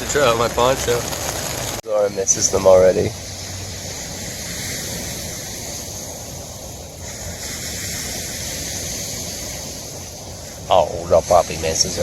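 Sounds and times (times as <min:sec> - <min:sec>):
rain: 0:00.0 - 0:12.0
surf breaking on beach: 0:00.0 - 0:12.0
wind: 0:00.0 - 0:12.0.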